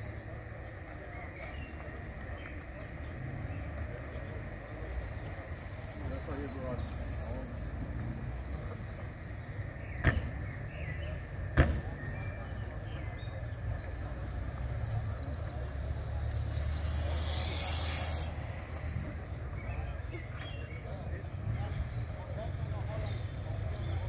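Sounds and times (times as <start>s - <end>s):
car engines rumbling: 0.0s - 24.0s
faint voices: 0.0s - 24.0s.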